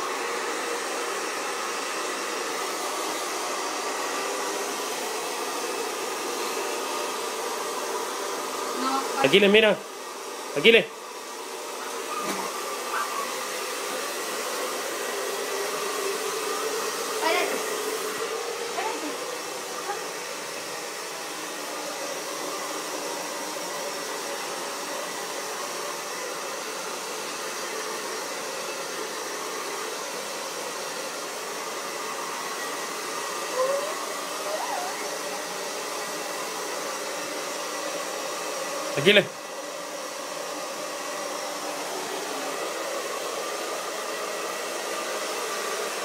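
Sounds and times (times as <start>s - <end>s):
hair dryer running: 0.0s - 46.0s.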